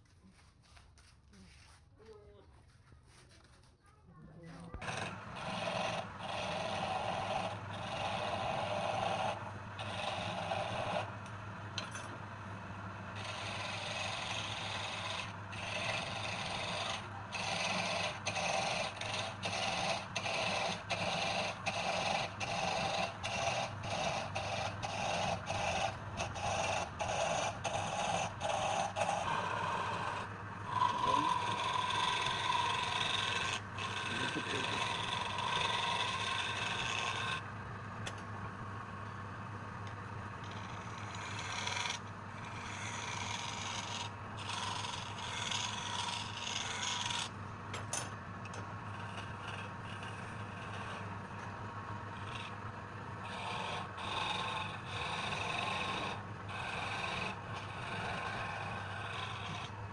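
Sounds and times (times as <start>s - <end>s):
lathe motor hum: 4.6s - 59.9s
tool scraping wood on lathe: 4.6s - 59.9s.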